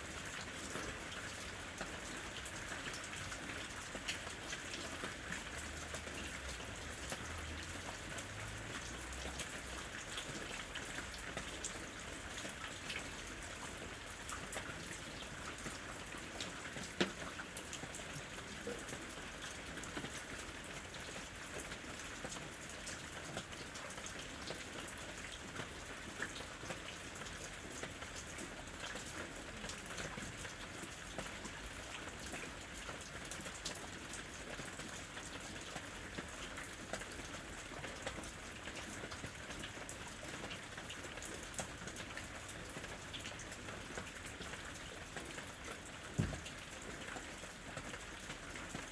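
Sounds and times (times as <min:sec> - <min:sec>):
rain on a roof: 0:00.0 - 0:48.9.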